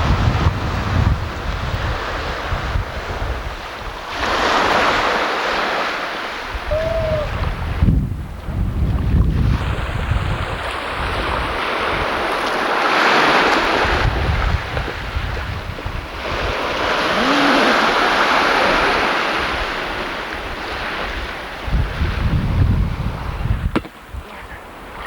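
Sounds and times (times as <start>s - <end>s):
wind rumbling on microphone: 0.0s - 25.0s
sea waves breaking: 0.7s - 7.9s, 9.0s - 23.8s.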